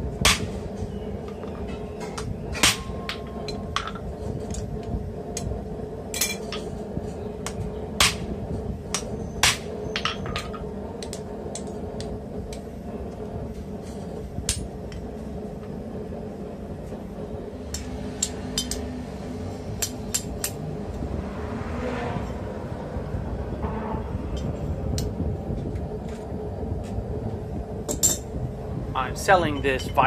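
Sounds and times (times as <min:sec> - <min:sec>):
steady background rumble: 0:00.0 - 0:30.0.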